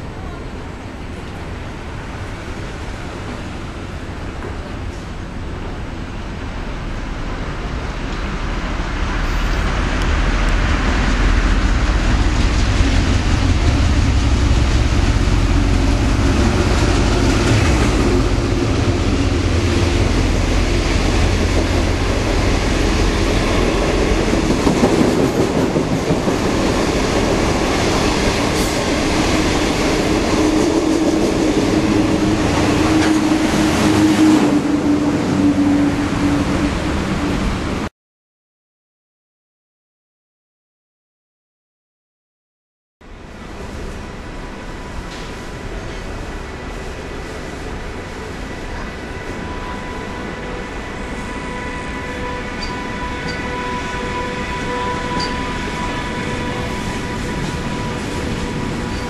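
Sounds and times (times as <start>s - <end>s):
passenger train passing at speed: 0.0s - 37.9s, 43.0s - 59.0s.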